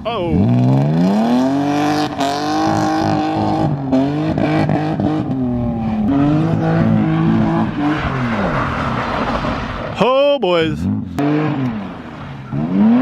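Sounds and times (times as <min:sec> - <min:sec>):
car engine at high revs: 0:00.0 - 0:10.0, 0:10.8 - 0:13.0.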